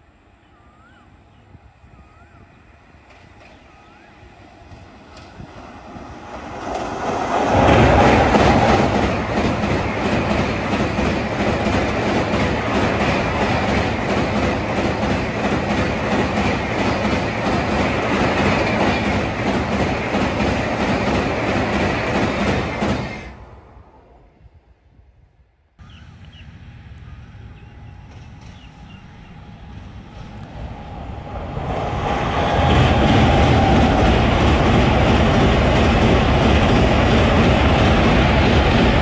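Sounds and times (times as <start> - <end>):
train crossing metal bridge: 0.0 - 24.6, 25.8 - 39.0.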